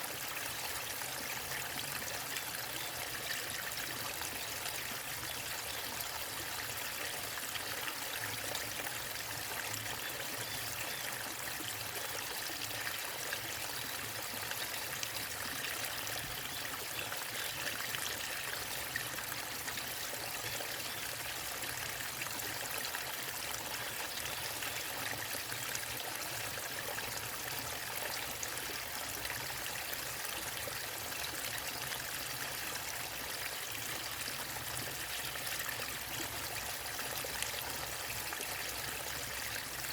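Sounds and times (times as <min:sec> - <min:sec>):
waterfall and stream running: 0:00.0 - 0:39.9.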